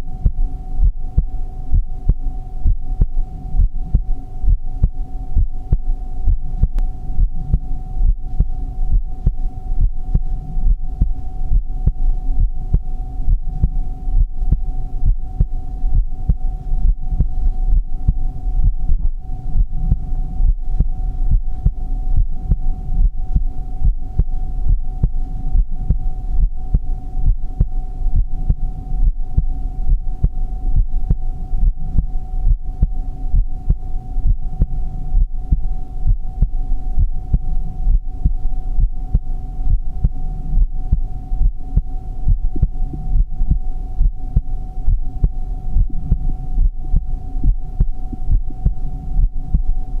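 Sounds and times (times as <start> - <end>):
continuous low hum: 0.0 - 50.0
heartbeat: 0.0 - 50.0.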